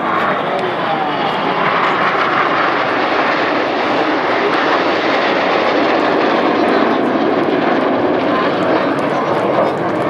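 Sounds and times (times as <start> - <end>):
jet engines roaring past: 0.0 - 10.0.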